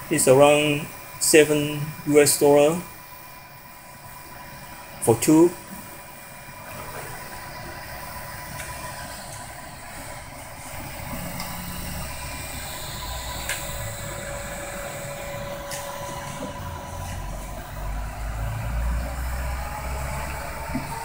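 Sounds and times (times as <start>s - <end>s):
printer motor whine: 0.0s - 21.0s.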